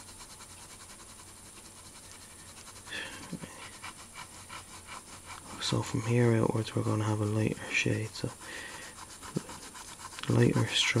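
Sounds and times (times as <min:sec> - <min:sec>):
pen scratching on paper: 0:00.0 - 0:11.0.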